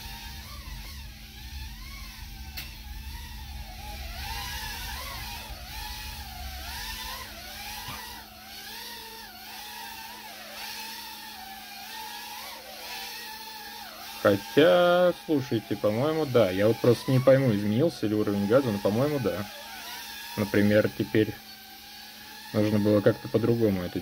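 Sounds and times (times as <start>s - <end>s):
small quadcopter buzzing whine: 0.0s - 24.0s.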